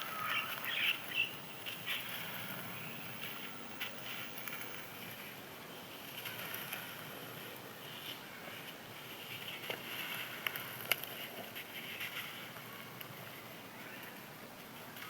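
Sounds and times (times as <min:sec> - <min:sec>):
dry sand crunching and crackling: 0:00.0 - 0:14.3.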